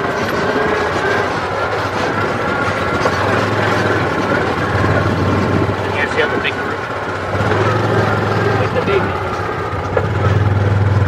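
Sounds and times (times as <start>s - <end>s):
vehicle body rattling: 0.0s - 11.0s
vehicle engine rumbling: 0.0s - 11.0s.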